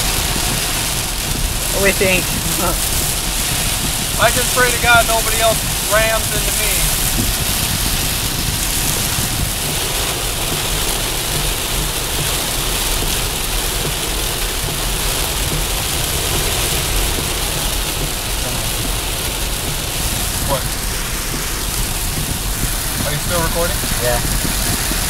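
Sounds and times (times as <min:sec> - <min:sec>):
heavy rain on vehicle: 0:00.0 - 0:25.0
low rumble: 0:00.0 - 0:25.0.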